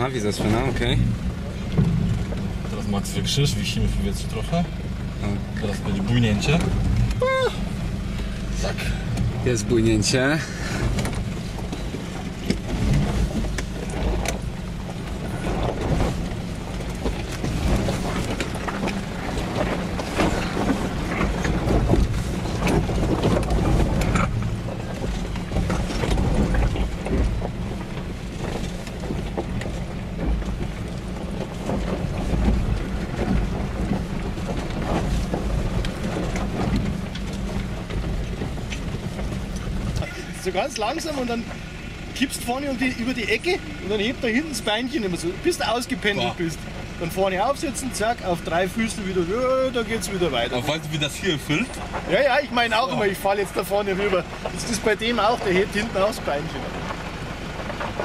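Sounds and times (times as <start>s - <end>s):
knocks and rattles over rocks: 0.0s - 3.8s, 8.0s - 58.0s
diesel engine running low: 0.0s - 58.0s.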